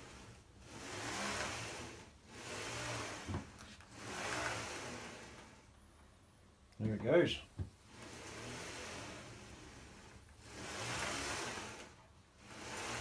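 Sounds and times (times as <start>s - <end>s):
gantry rolling along rails: 0.0s - 6.0s, 6.8s - 13.0s.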